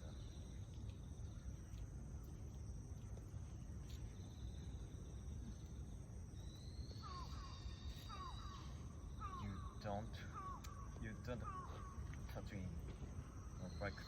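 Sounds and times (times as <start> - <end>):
constant low rumble: 0.0 - 14.0
crickets trilling: 0.0 - 14.0
lower insect trill: 0.0 - 14.0.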